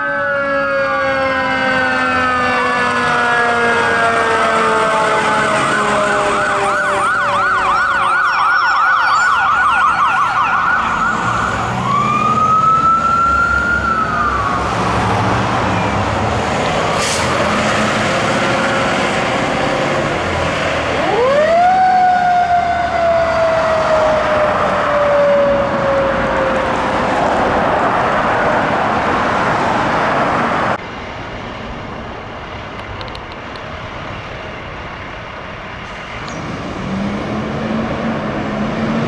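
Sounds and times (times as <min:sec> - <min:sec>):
emergency vehicle sirens: 0:00.0 - 0:39.0
vehicle engine noise: 0:02.2 - 0:39.0.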